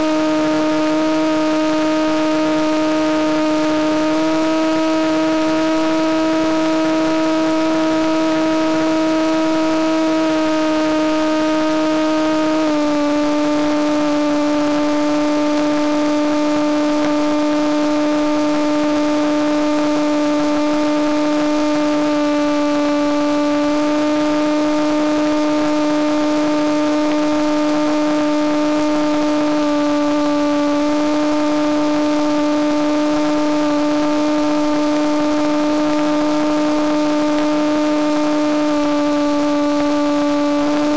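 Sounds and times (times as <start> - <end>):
model airplane motor droning: 0.0 - 40.9.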